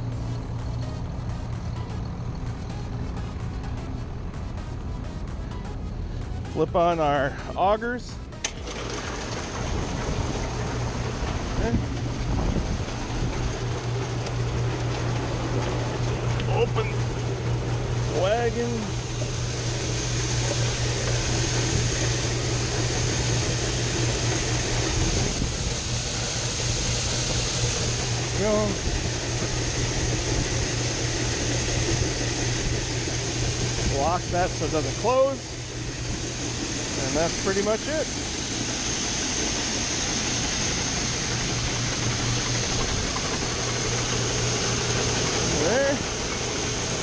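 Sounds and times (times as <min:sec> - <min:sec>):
grain augers humming: 0:00.0 - 0:47.0
corn pouring hiss: 0:06.6 - 0:47.0.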